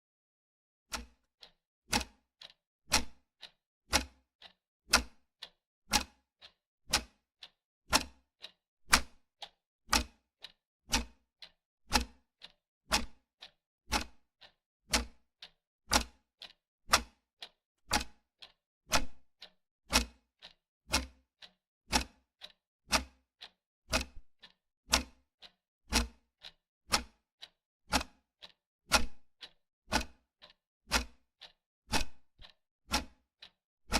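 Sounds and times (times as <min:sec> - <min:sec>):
wall clock ticking: 0:00.9 - 0:33.9.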